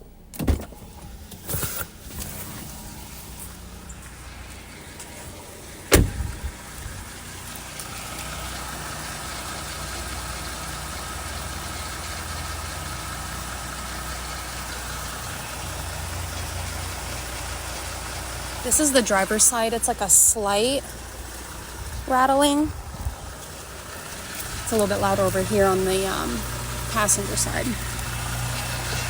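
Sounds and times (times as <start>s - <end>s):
car engine idling with rattle: 0.0s - 29.0s.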